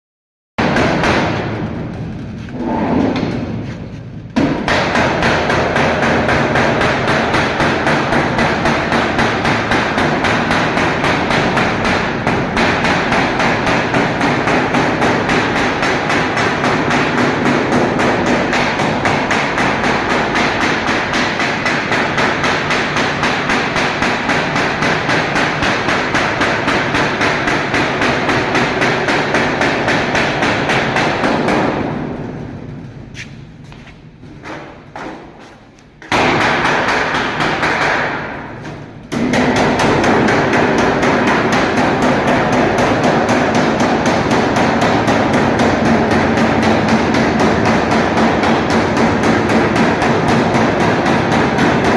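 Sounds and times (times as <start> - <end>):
rapid hammering blows: 0.6 - 2.2, 3.2 - 33.0, 34.3 - 51.9.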